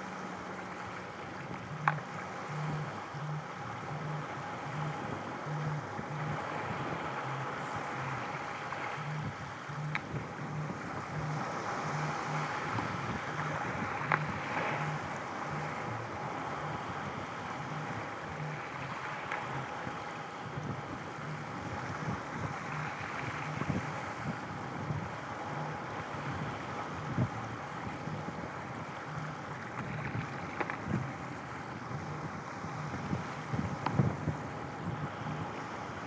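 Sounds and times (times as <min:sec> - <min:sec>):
faint low beat: 0:00.0 - 0:36.0
water: 0:00.0 - 0:36.0
wind: 0:00.0 - 0:36.0.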